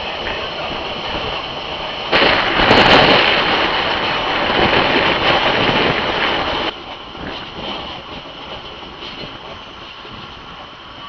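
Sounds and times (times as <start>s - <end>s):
train running noise: 0.0s - 11.0s
wind buffeting microphone: 0.0s - 11.0s.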